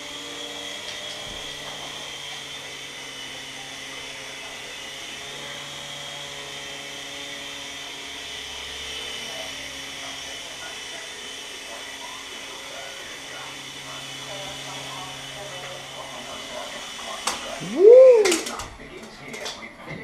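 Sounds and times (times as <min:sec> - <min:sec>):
toy helicopter rotors whirring: 0:00.0 - 0:19.4.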